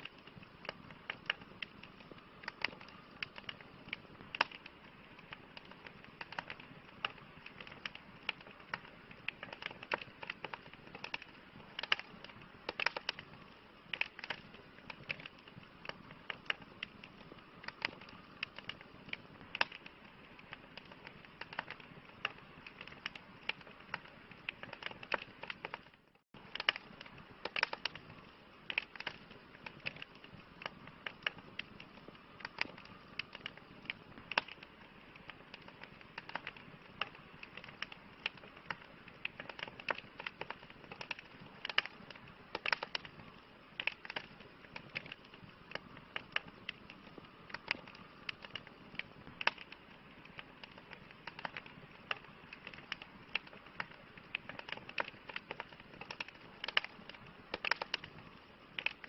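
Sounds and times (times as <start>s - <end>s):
campfire crackling: 0.0s - 59.0s
soft hiss: 0.0s - 59.0s.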